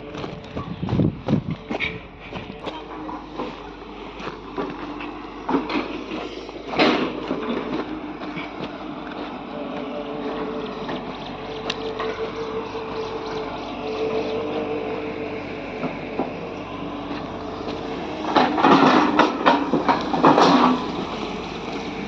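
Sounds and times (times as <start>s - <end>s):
excavator engine and hydraulics whine: 0.0s - 22.0s.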